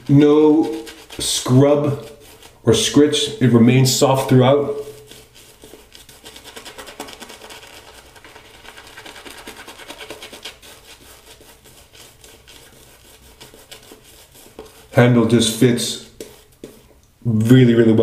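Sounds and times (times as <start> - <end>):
shaving brush scrubbing lather: 0.0 - 16.9.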